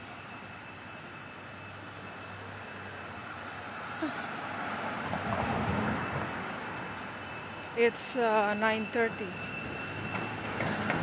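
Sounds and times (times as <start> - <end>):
city street traffic hum: 0.0 - 11.0.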